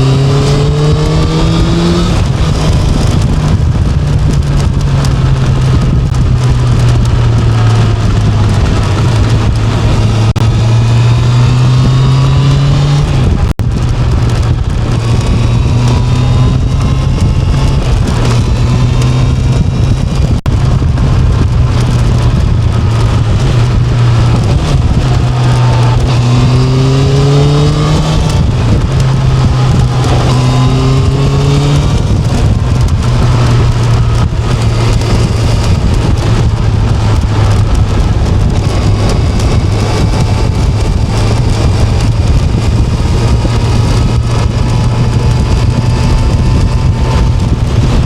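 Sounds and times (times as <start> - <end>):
motorcycle engine drone: 0.0 - 48.0
wind noise: 0.0 - 48.0.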